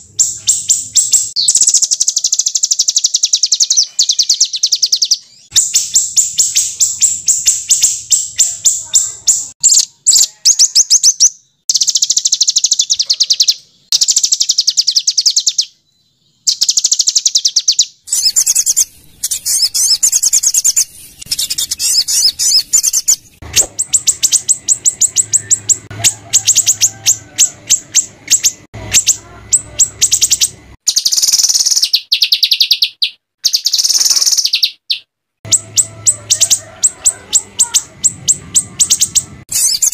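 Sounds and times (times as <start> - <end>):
songbird singing rapid trills: 0.0 - 39.9.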